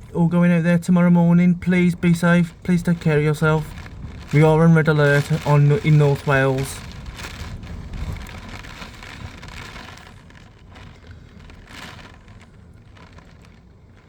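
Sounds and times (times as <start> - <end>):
faint rain patter: 0.0 - 14.0
storm wind rumble inside a car: 0.0 - 14.0.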